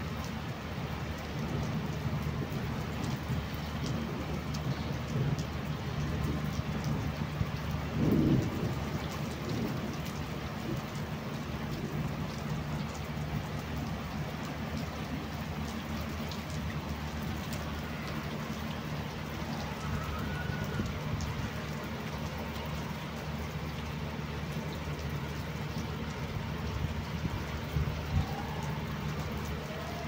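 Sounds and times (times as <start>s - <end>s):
heavy rain on rooftops: 0.0s - 30.0s.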